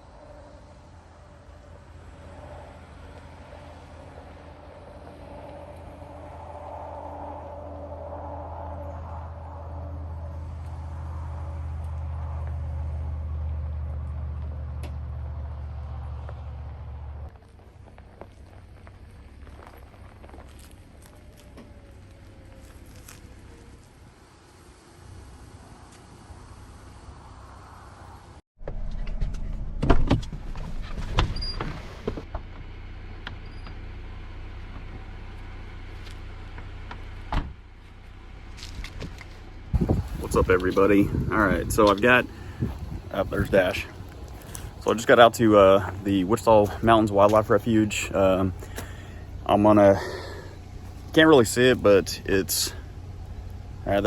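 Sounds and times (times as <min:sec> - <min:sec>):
car engine running: 0:00.0 - 0:27.5, 0:29.8 - 0:54.0.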